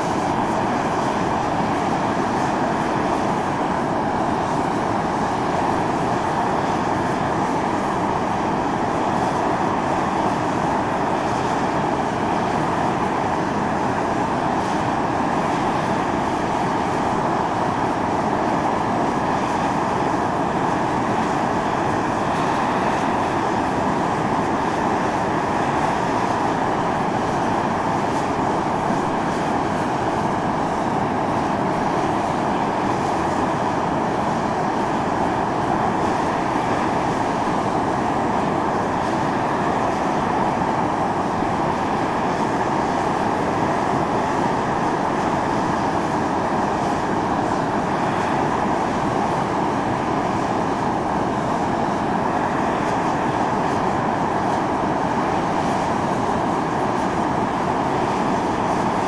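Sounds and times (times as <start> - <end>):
steam venting hiss: 0.0 - 59.0.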